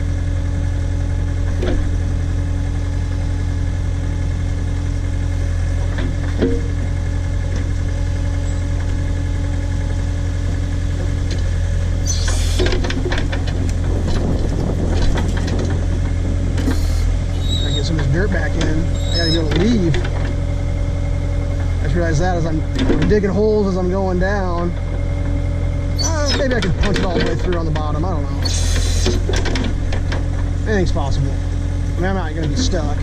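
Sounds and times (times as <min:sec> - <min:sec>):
backhoe engine running: 0:00.0 - 0:33.0.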